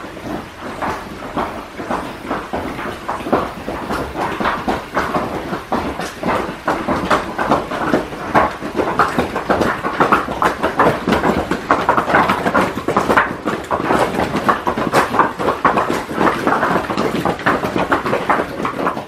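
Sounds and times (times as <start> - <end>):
sandal footsteps on stone stairs: 0.0 - 19.0.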